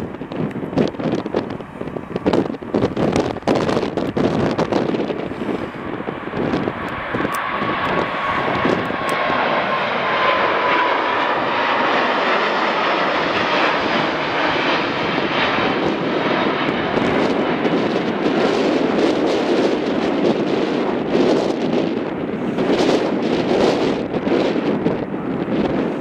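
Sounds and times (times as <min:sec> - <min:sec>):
jet engines roaring overhead: 0:00.0 - 0:26.0.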